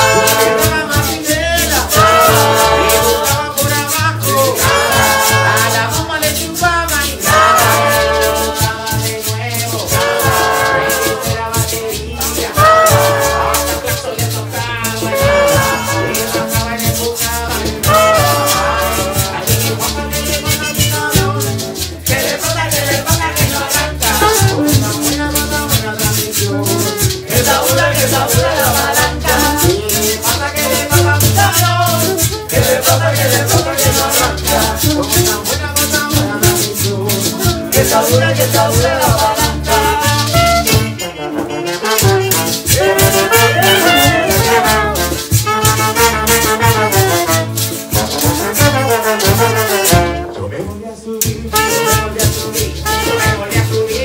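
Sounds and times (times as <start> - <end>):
metal scraper rhythm: 0.0 - 41.0, 41.9 - 50.3
pulsing bass line: 0.0 - 41.0, 42.0 - 50.5, 51.3 - 54.0
trombone: 0.0 - 50.6, 51.2 - 54.0.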